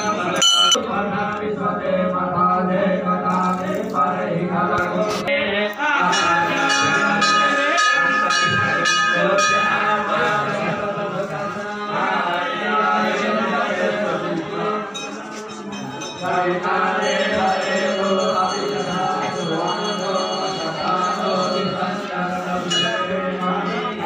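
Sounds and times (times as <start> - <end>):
devotional chanting: 0.0 - 24.0.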